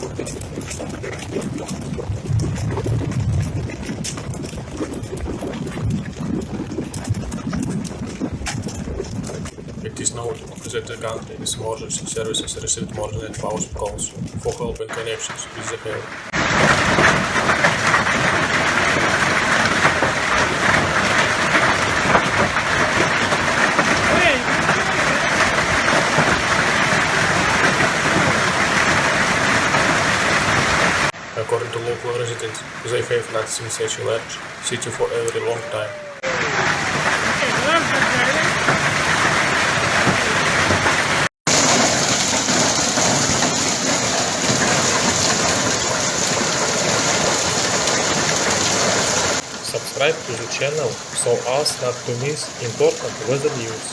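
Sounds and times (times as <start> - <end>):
heavy rain: 0.0 - 12.8, 14.9 - 53.9
hailstones clattering: 0.0 - 13.6, 14.2 - 53.9.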